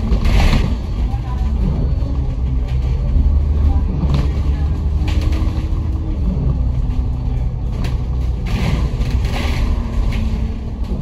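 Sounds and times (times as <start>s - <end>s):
bus engine and road rumble: 0.0s - 11.0s
rattles: 0.0s - 11.0s.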